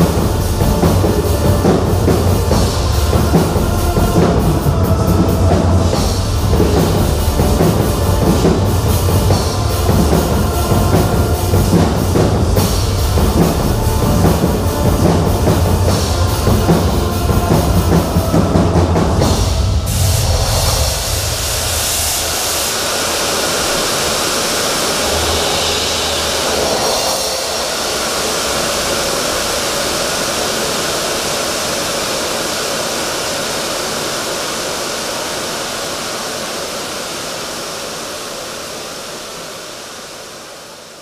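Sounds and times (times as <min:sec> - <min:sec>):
gas jets hissing: 0:00.0 - 0:40.9.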